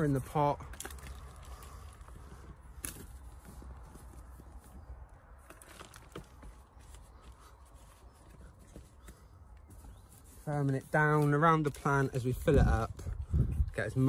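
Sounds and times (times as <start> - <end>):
hands rustling compost: 0.0 - 14.0.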